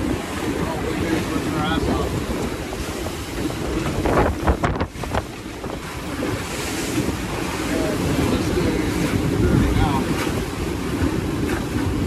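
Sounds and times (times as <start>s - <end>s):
waves rushing against boat: 0.0s - 12.0s
wind buffeting microphone: 0.0s - 12.0s.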